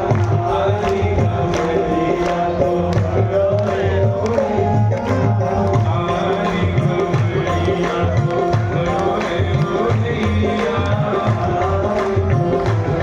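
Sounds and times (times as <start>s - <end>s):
hand drum rhythm: 0.0s - 13.0s.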